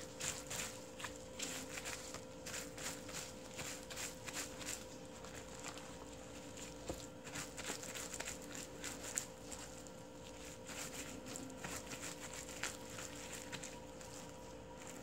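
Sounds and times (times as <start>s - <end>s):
wet squishing of cabbage leaves: 0.0s - 15.0s.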